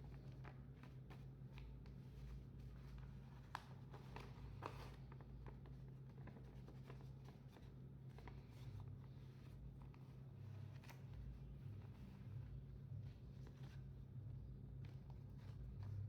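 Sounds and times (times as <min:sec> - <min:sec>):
paper rustling and folding: 0:00.0 - 0:16.0
steady low hum: 0:00.0 - 0:16.0.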